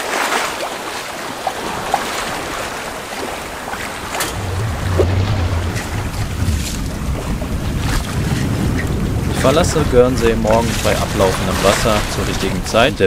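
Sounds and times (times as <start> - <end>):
sea water splashing: 0.0 - 13.0
wind buffeting microphone: 1.1 - 13.0.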